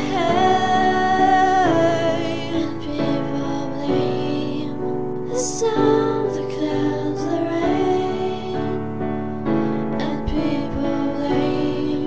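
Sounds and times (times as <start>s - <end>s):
person singing with vibrato: 0.0s - 12.0s
piano chords: 0.0s - 12.0s.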